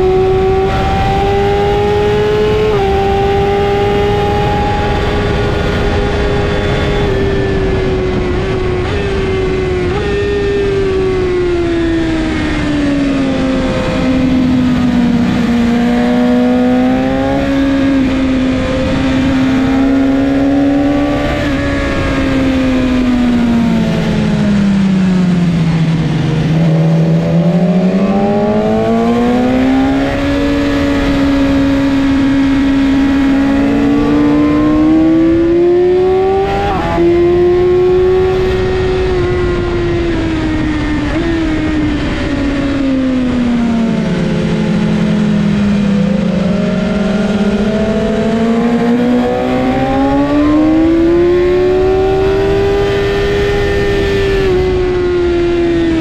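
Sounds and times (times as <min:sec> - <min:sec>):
motorcycle engine running hard: 0:00.0 - 0:56.0
wind rush: 0:00.0 - 0:56.0.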